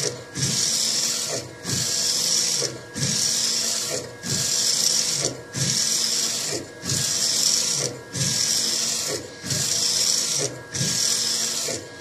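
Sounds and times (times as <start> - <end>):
printer carriage whirring hiss: 0.0 - 12.0.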